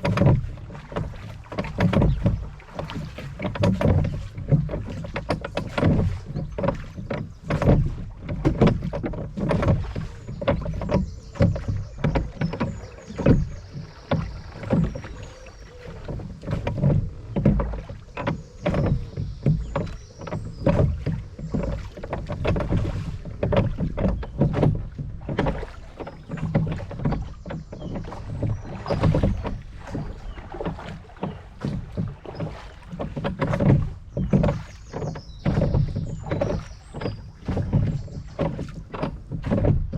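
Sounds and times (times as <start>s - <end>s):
water lapping around a boat: 0.0s - 39.9s.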